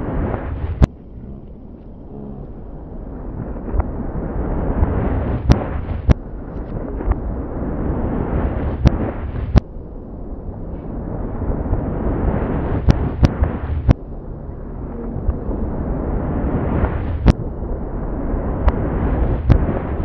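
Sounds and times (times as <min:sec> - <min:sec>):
reversed fireworks rumble: 0:00.0 - 0:20.0.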